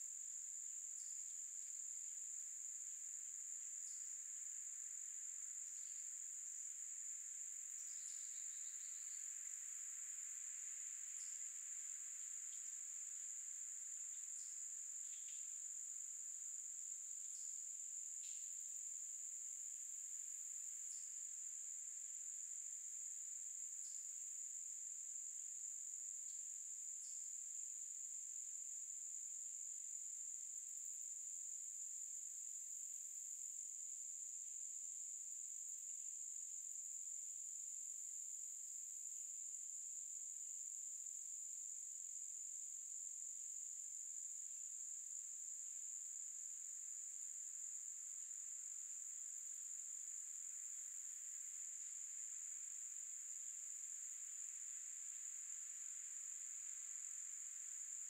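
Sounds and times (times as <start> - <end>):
shrill insect chorus: 0.0 - 31.5, 39.9 - 58.0.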